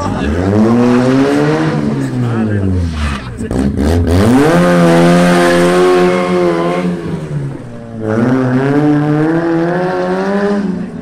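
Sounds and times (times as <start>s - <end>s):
small car engine revving hard: 0.0s - 11.0s.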